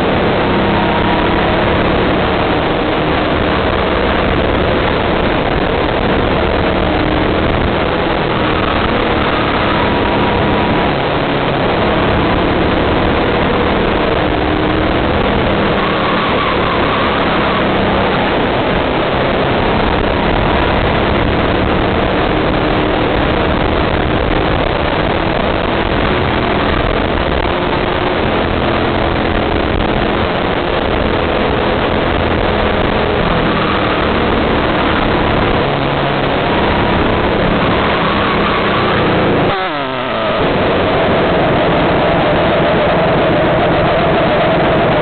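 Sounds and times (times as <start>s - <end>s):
go-kart engine racing: 0.0s - 45.0s
wind noise on microphone: 0.0s - 45.0s.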